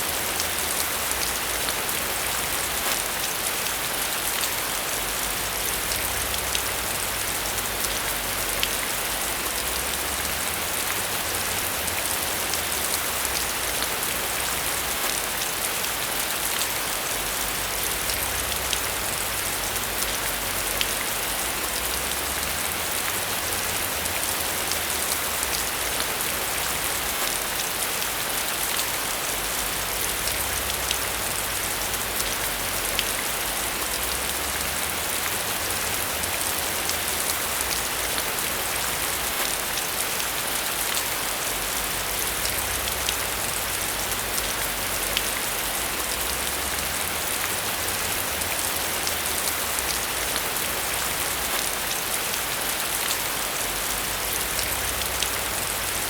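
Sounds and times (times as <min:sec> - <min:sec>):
rain falling on surfaces: 0:00.0 - 0:56.0.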